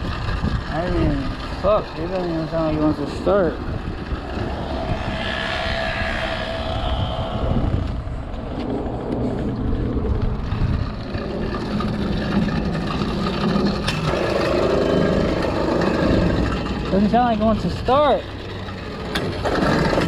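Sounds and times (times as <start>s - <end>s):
small engine running rough: 0.0s - 20.0s.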